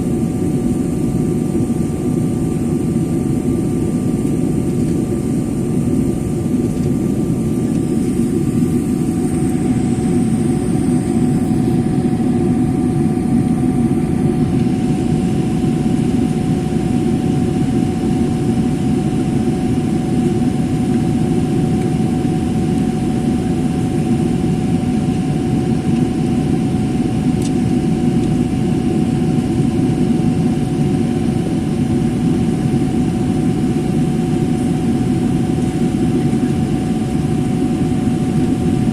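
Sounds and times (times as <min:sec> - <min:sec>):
jet engines rumbling: 0:00.0 - 0:38.9
steady whine: 0:00.0 - 0:38.9.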